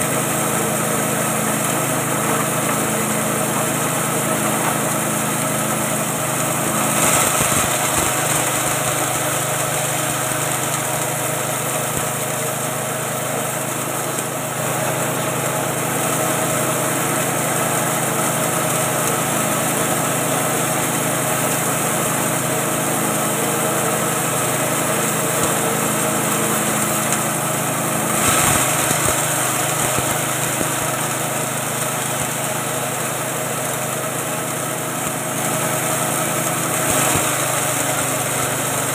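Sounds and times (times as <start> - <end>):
grinding machine milling feed: 0.0 - 38.9
small engine running under load: 0.0 - 38.9.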